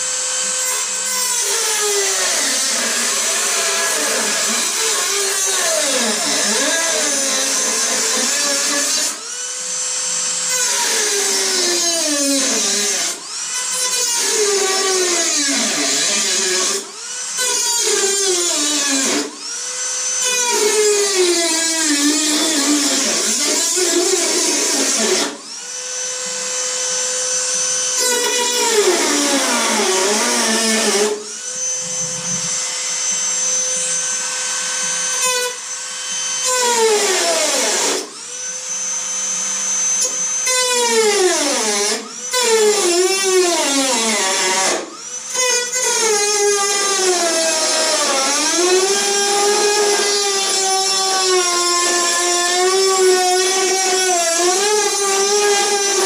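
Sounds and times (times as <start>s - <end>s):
rotary tool cutting metal: 0.0s - 56.0s.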